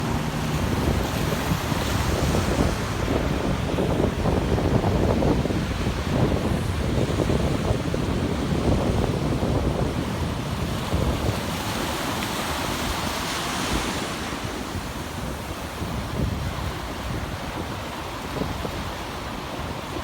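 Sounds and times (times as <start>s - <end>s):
surf washing: 0.0s - 20.0s
wind buffeting microphone: 0.0s - 20.0s.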